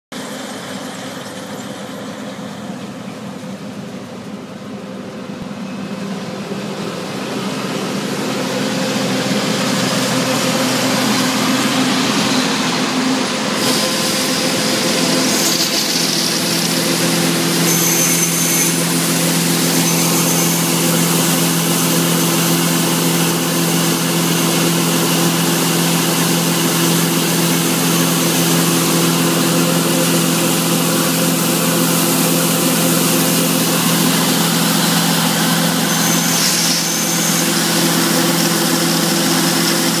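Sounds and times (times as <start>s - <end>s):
combine engine hum: 0.1s - 40.0s
grain pouring hiss: 8.0s - 40.0s.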